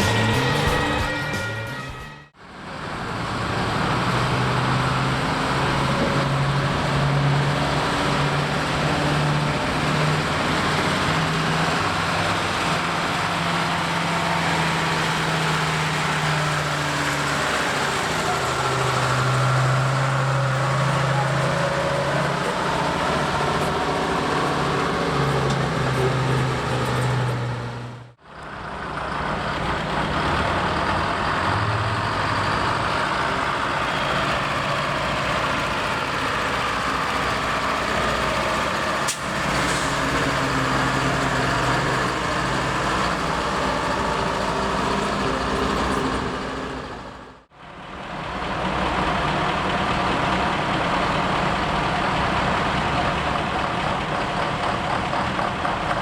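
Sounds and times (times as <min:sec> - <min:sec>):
truck engines running: 0:00.0 - 0:56.0.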